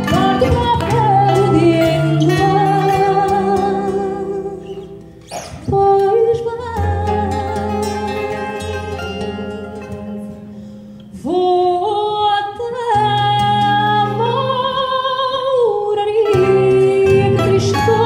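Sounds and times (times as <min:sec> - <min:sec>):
woman singing with vibrato: 0:00.0 - 0:10.4, 0:11.1 - 0:18.0
plucked guitars: 0:00.0 - 0:18.0.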